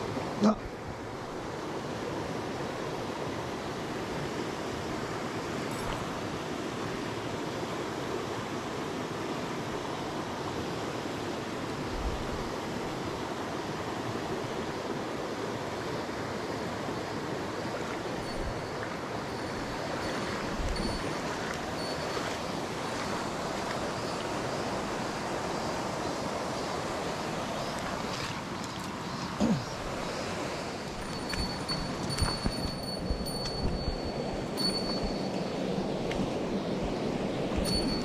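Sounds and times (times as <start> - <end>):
stream flowing over stones: 0.0 - 38.0.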